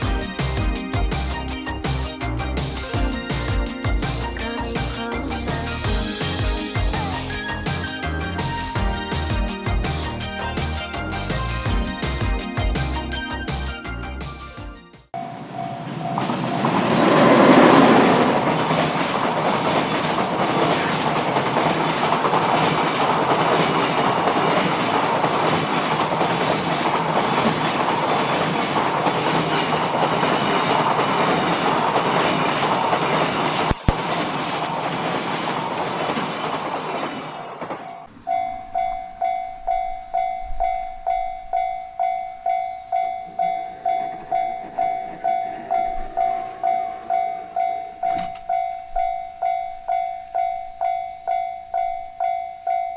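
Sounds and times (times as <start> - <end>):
level crossing warning bell: 0.0 - 13.6, 15.2 - 52.9
train wheels rattling on rails: 0.0 - 13.7, 15.2 - 52.9.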